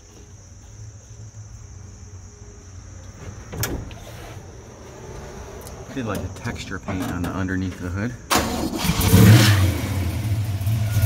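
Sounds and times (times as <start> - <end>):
crickets chirring: 0.0 - 9.0.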